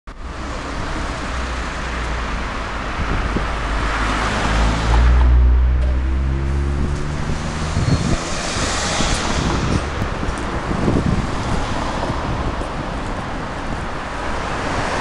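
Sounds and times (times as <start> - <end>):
bus diesel engine: 0.1 - 15.0
passing traffic: 0.1 - 15.0.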